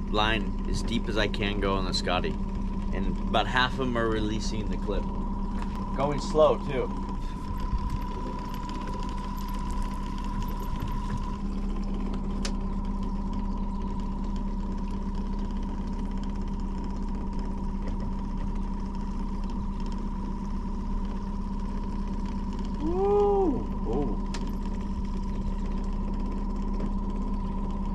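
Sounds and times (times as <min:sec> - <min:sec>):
outboard motor running: 0:00.0 - 0:27.9.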